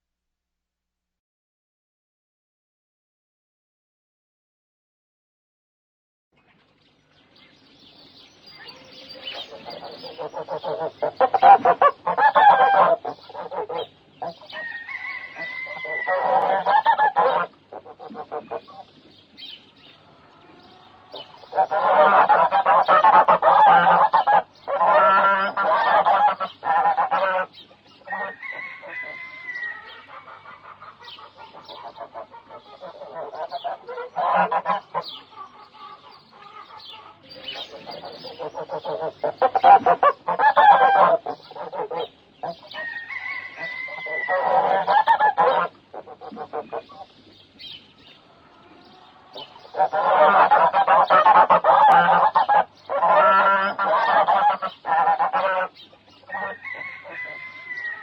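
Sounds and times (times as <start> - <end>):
flock of birds calling: 8.5 - 58.0.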